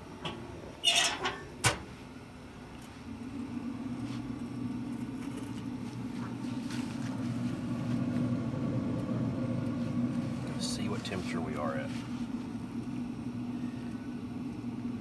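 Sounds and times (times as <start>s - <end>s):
smoker fan motor hum: 0.0s - 15.0s.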